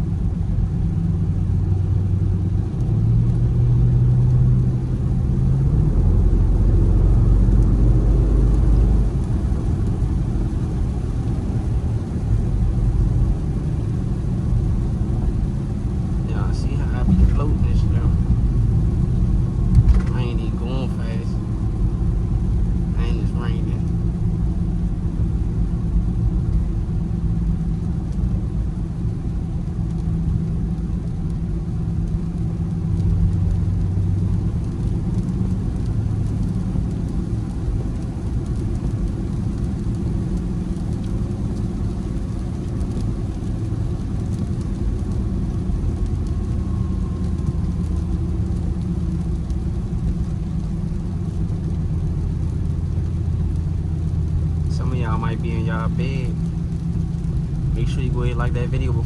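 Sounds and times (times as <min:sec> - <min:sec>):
car engine and road noise drone: 0:00.0 - 0:59.0.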